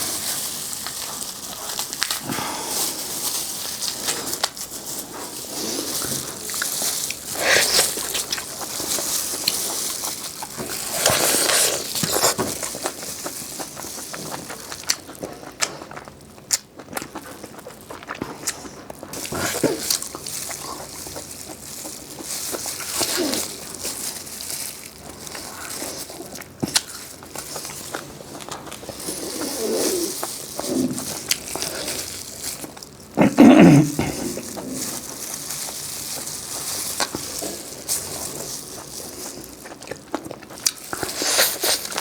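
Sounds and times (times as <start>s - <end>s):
chewing crispy food: 0.0s - 42.0s.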